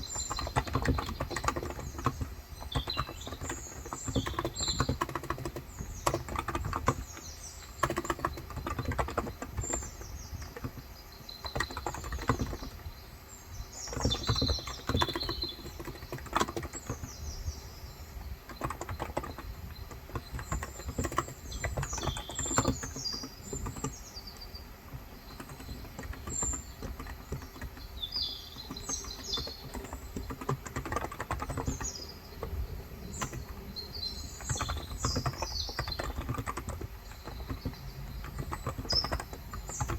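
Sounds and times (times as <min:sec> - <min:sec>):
typing on keyboard: 0:00.0 - 0:13.0, 0:13.6 - 0:39.9
birds chirping: 0:00.0 - 0:39.9.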